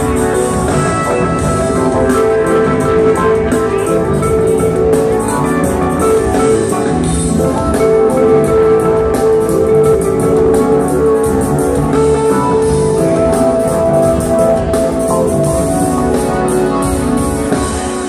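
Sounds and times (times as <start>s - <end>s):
drums beating: 0.0s - 18.0s
live band playing amplified music: 0.0s - 18.0s.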